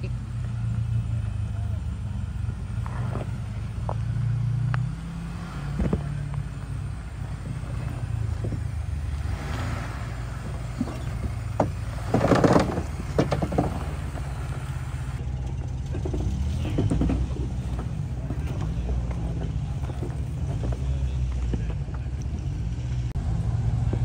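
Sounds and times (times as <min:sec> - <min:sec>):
engine running low: 0:00.0 - 0:24.0.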